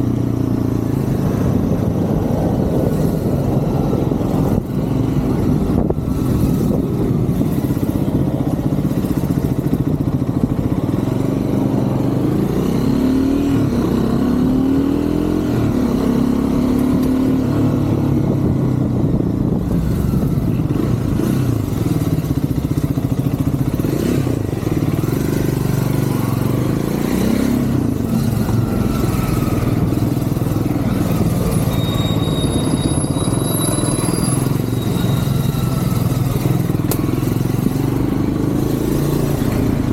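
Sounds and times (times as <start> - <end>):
motorcycle engine accelerating: 0.0 - 39.9
road noise rumble: 0.0 - 39.9.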